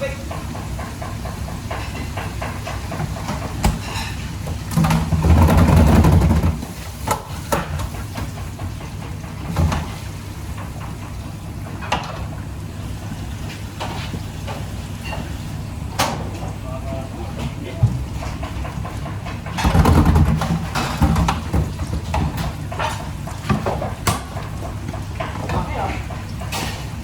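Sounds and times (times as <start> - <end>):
rumbling kitchen background: 0.0 - 27.0.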